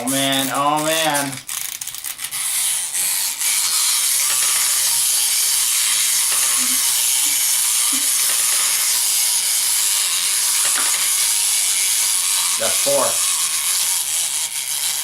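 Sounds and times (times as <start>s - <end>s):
wind-up toy motor whirring: 0.0s - 15.0s.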